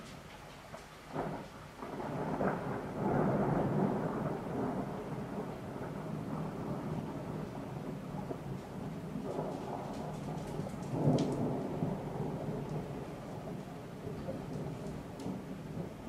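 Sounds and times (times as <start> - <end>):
steady rain: 0.0 - 16.0
thunder crack and rumble: 0.0 - 16.0.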